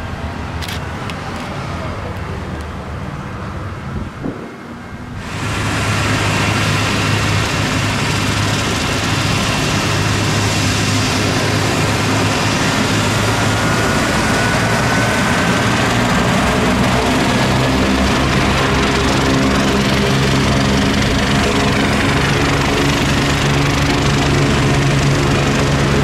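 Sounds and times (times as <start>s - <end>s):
helicopter turbine whine: 0.0s - 26.0s
low rotor hum: 0.0s - 26.0s.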